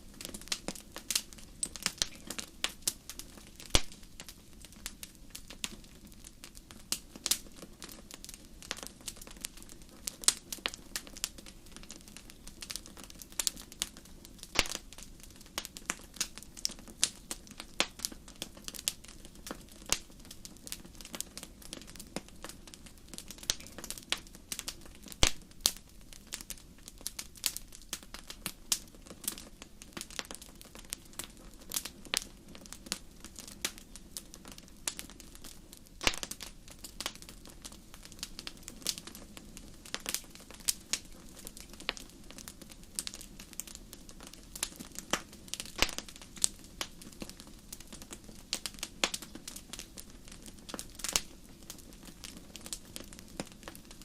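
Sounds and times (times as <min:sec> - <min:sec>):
sharp fire pops and snaps: 0:00.0 - 0:54.0
wood fire crackling: 0:00.0 - 0:54.0.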